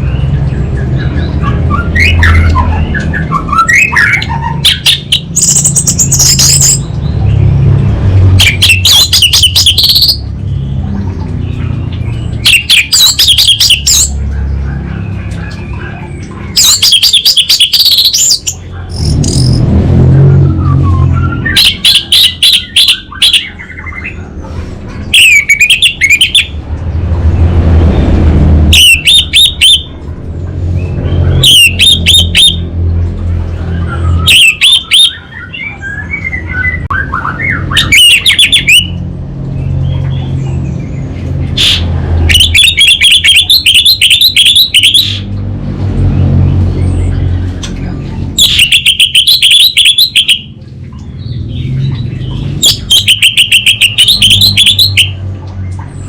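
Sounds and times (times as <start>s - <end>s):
thrush singing rapid chirps: 0.0s - 19.7s, 20.6s - 24.4s, 25.0s - 27.0s, 28.7s - 45.3s, 46.2s - 56.0s.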